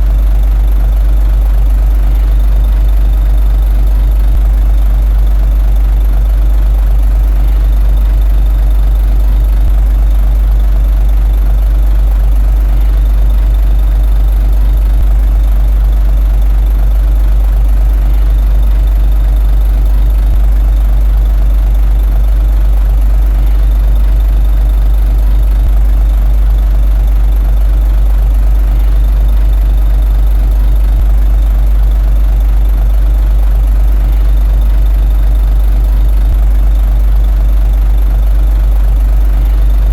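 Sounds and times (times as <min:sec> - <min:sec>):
bulldozer diesel engine rumbling: 0:00.0 - 0:39.9.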